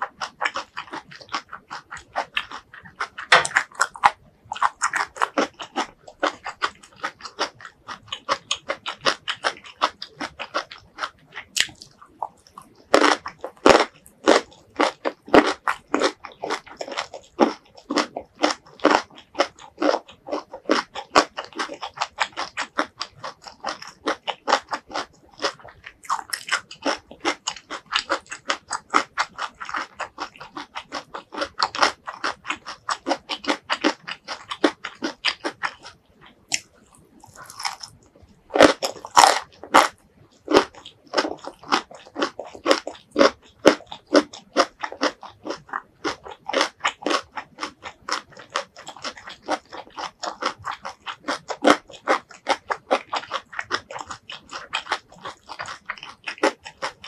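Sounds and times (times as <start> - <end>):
chewing and crunching vegetables: 0.0 - 57.0.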